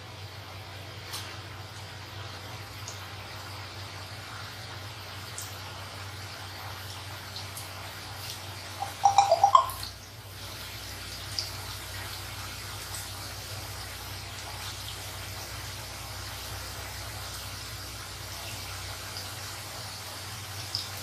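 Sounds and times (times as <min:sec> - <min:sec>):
oil sizzling while deep-frying: 0:00.0 - 0:21.0.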